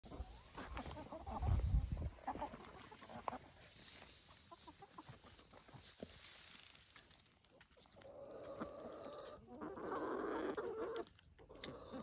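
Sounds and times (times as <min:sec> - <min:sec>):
hens clucking: 0:00.0 - 0:06.1, 0:07.6 - 0:12.0.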